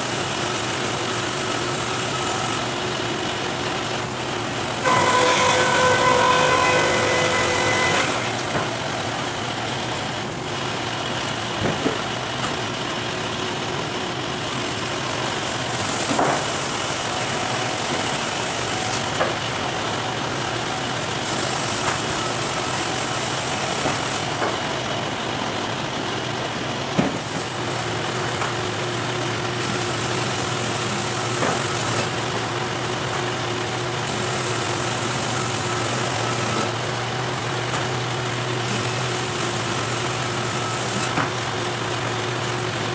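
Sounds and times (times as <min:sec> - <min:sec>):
band sawmill running: 0:00.0 - 0:42.9.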